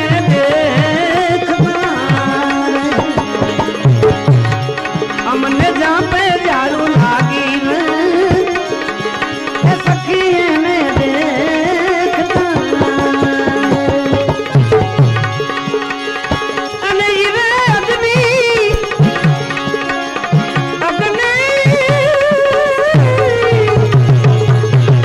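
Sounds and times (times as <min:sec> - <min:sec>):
tabla strokes: 0:00.0 - 0:25.0.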